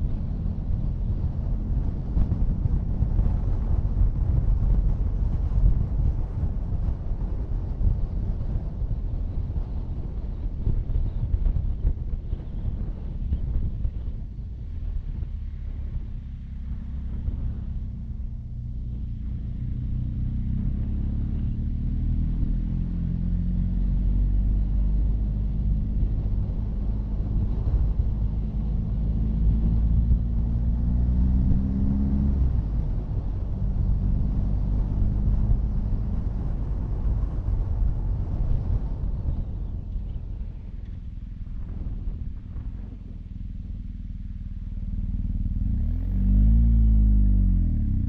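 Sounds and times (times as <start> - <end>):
motorcycle engine accelerating: 0.0 - 48.0
road and wind rumble: 0.0 - 48.0.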